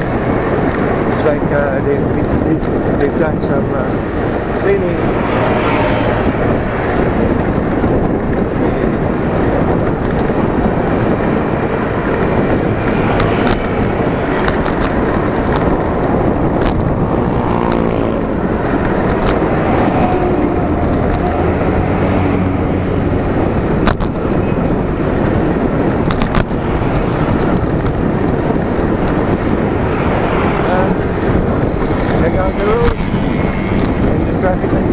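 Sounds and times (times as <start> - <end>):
road and traffic noise: 0.0 - 34.9
wind rushing over microphone: 0.0 - 34.9.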